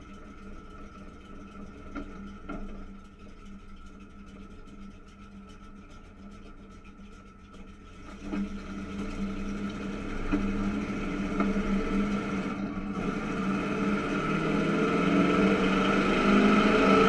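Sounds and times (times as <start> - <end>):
muffled race car engine idling: 0.0 - 17.0.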